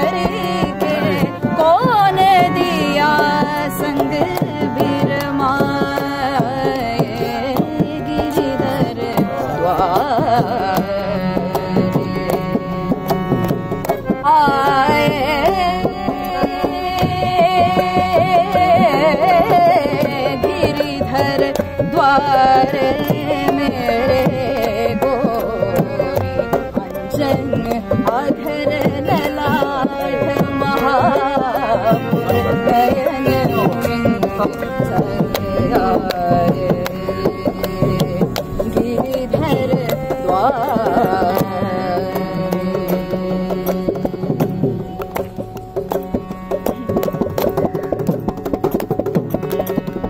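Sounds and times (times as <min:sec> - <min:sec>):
hand drum: 0:00.0 - 0:50.0
woman singing devotional song: 0:00.0 - 0:50.0.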